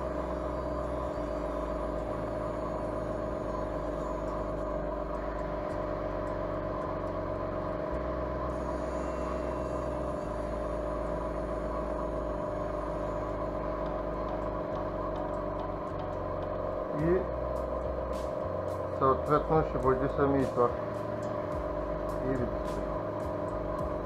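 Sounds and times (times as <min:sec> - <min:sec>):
airbrush compressor humming: 0:00.0 - 0:24.0.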